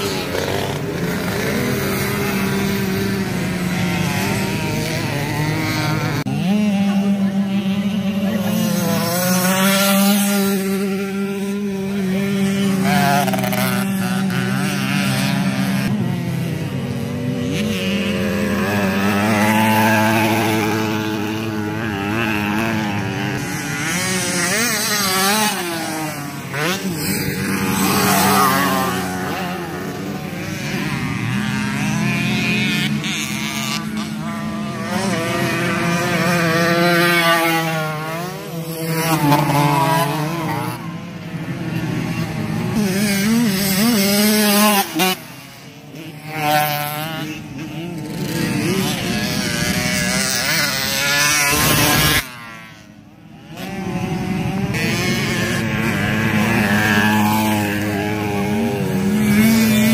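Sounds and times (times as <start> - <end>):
engine drone: 0.0 - 59.9
racing motorcycles passing: 0.0 - 59.9.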